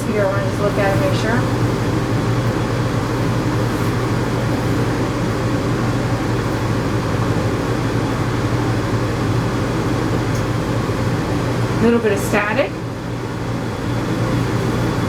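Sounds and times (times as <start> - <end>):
mechanical hum with low buzz: 0.0 - 15.0.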